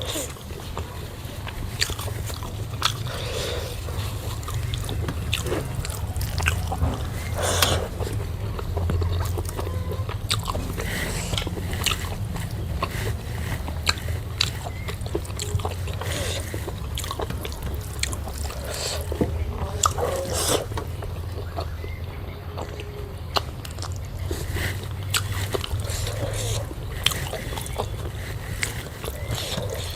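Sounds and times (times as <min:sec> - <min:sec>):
mouth smacks and clicks: 0:00.0 - 0:29.9
steady low hum: 0:00.0 - 0:29.9
wet chewing: 0:00.0 - 0:29.9.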